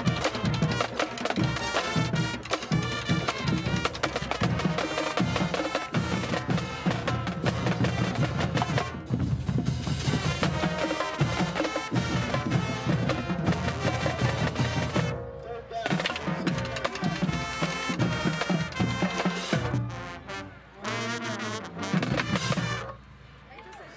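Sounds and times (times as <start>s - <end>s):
drumline beating rapid strokes: 0.0s - 23.1s
marching band playing: 0.0s - 23.4s
trumpets and brass playing: 0.0s - 23.4s.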